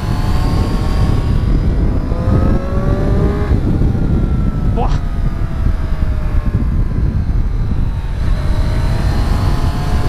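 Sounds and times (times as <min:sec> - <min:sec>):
motorcycle engine running: 0:00.0 - 0:10.0
wind rumble on microphone: 0:00.0 - 0:10.0.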